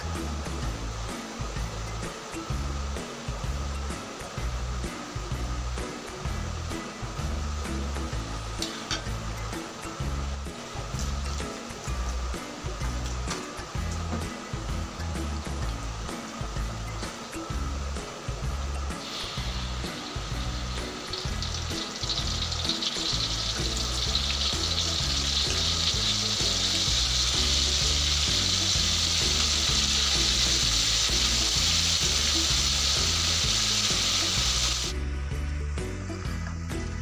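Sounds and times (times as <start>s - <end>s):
food deep-frying in oil: 0.0s - 35.0s
background music: 0.0s - 37.0s.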